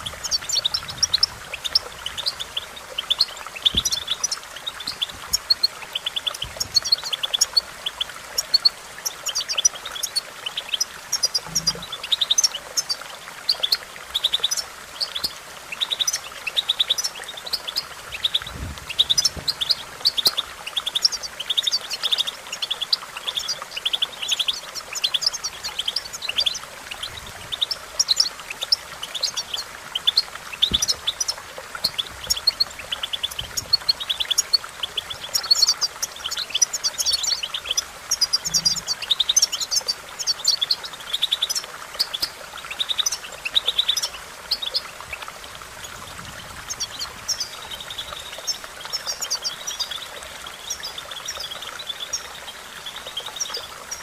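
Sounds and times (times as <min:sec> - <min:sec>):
faint steady hiss: 0:00.0 - 0:54.0
goldfinch twittering song: 0:00.0 - 0:54.0.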